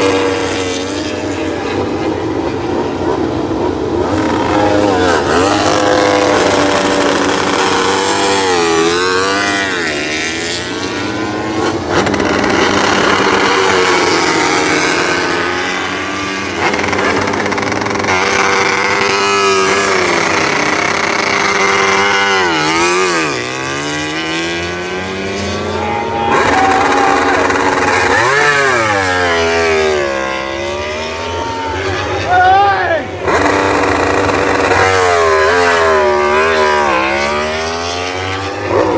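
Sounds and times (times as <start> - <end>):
racing motorcycles passing: 0.0 - 38.9.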